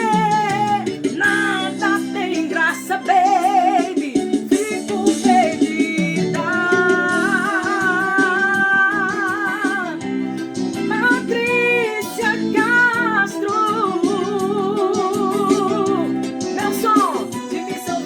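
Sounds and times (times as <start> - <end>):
guitar accompaniment: 0.0 - 18.0
person singing with vibrato: 0.0 - 18.0.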